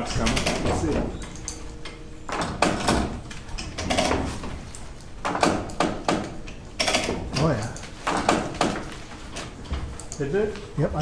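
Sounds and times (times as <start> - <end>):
chain ratchet clicking and rattling: 0.0 - 10.3.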